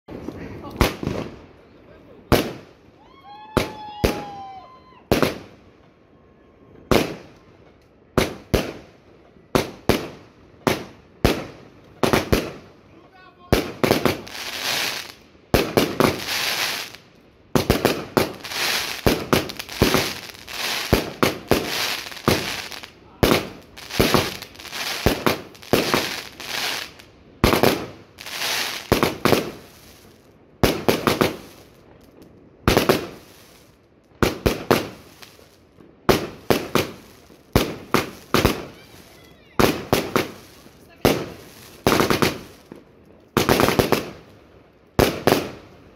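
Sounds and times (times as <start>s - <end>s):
fireworks bangs and crackling: 0.1s - 6.0s, 6.7s - 45.9s.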